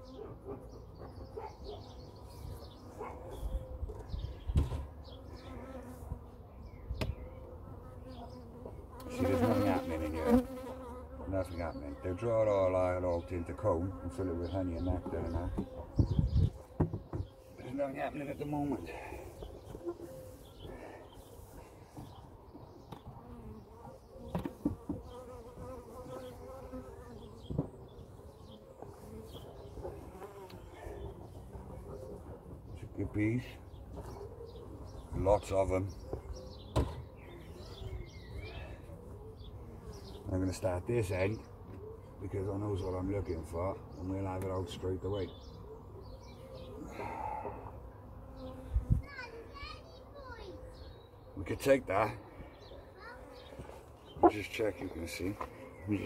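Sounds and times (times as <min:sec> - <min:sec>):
honeybees buzzing: 0:01.2 - 0:56.0.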